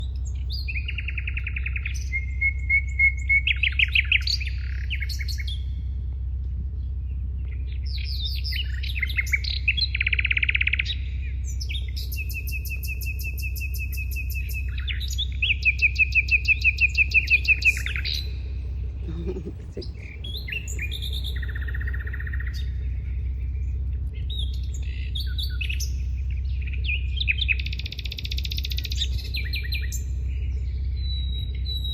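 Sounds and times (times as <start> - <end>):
birds chirping trills: 0.0 - 31.9
steady low hum: 0.0 - 31.9.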